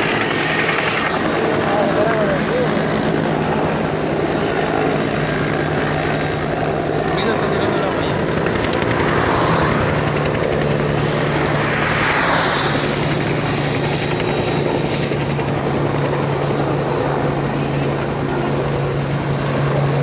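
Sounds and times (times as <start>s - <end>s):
helicopter flying low: 0.0s - 20.0s.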